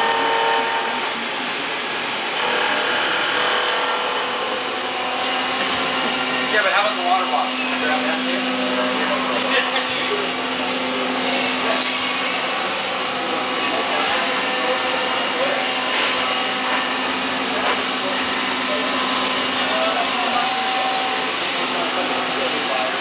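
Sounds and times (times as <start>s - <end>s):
high thin whine: 0.0s - 23.0s
machinery loud hiss: 0.0s - 23.0s.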